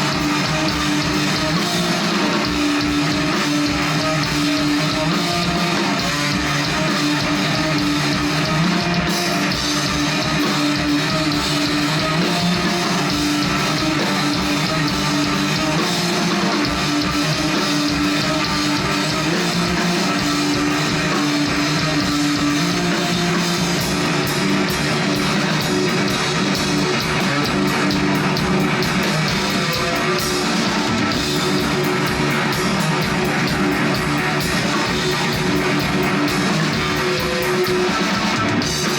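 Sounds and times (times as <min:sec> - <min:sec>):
drum kit with cymbals: 0:00.0 - 0:38.9
electric guitars: 0:00.0 - 0:38.9.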